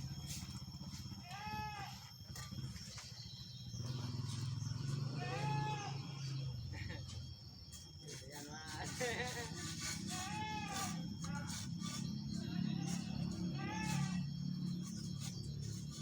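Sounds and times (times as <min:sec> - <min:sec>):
high squeal: 0:00.0 - 0:16.0.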